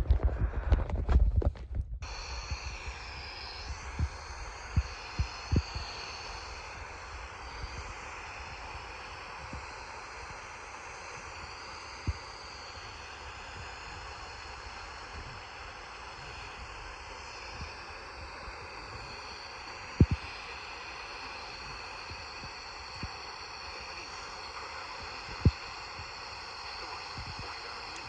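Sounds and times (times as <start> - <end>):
radio static crackling: 0.0 - 12.8, 13.8 - 28.0
faint warbling whine: 0.0 - 28.0
steady static hiss: 0.9 - 28.0.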